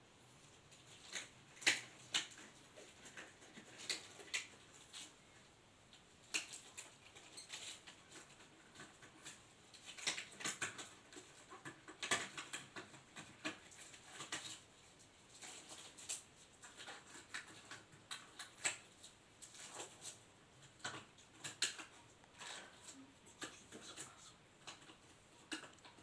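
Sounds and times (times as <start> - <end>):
small objects clicking and tapping: 0.8 - 5.1, 5.9 - 14.7, 15.4 - 26.0.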